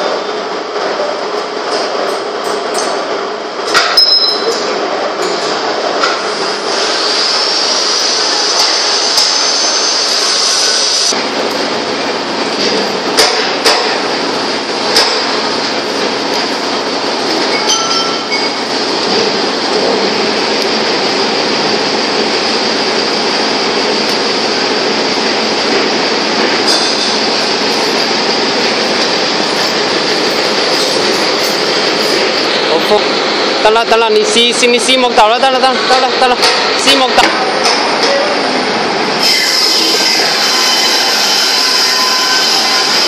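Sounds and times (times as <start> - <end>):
saw machine running with whine: 6.2 - 37.6, 38.3 - 43.0.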